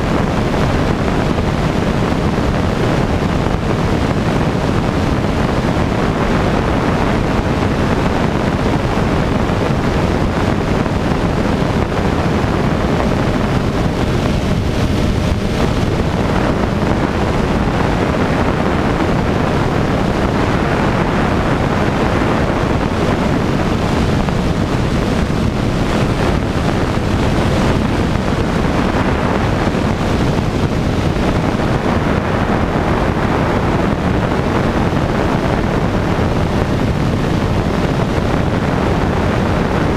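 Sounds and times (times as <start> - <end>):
heavy wind rush on microphone: 0.0 - 39.9
light aircraft engine and propeller: 0.0 - 39.9.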